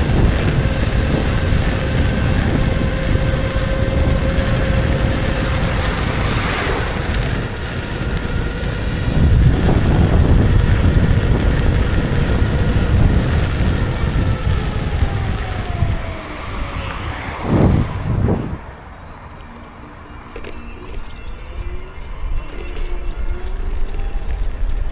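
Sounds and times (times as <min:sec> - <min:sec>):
wind rushing over microphone: 0:00.0 - 0:20.0
electric motor whine: 0:00.0 - 0:24.9
road and tyre rumble: 0:00.0 - 0:24.9.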